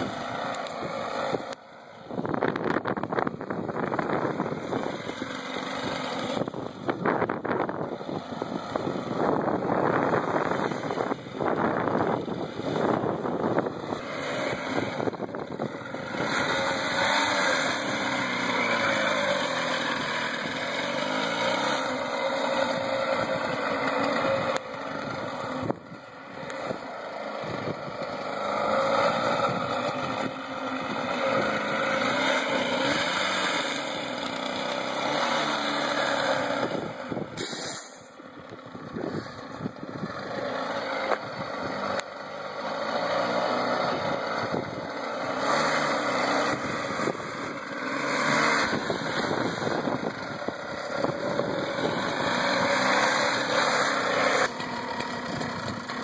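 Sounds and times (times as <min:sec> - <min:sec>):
small two-stroke engine revving: 0:00.0 - 0:56.0.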